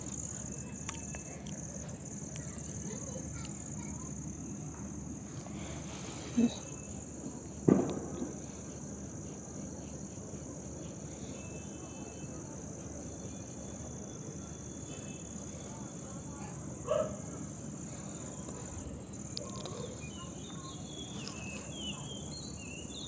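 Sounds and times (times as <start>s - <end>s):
night insects chirring: 0.0s - 23.0s.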